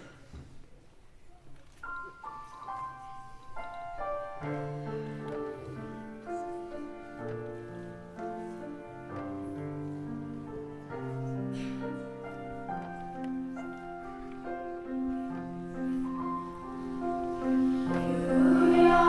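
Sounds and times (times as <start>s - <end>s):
slow chordal instrumental music: 2.2s - 19.0s.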